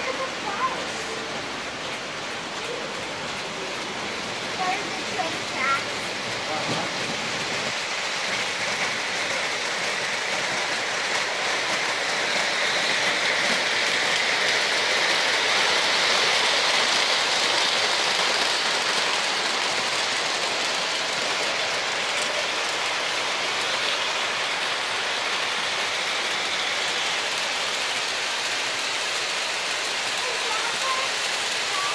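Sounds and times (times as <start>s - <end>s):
model train wheels rumbling: 0.0s - 31.9s.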